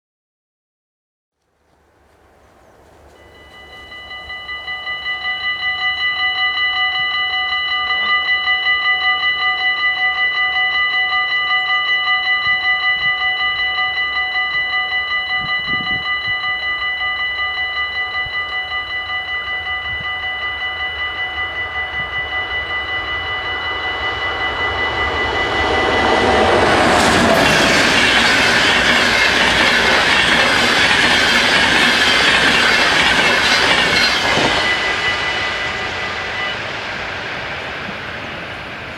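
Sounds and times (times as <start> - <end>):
train passing over crossing: 1.8 - 38.9
level crossing bells ringing: 3.0 - 38.9.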